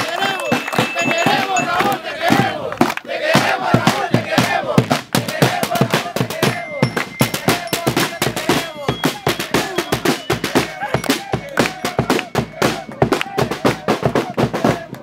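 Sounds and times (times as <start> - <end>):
bass and snare drums playing: 0.0 - 15.0
group of voices chanting: 0.0 - 15.0
hand claps: 0.0 - 15.0.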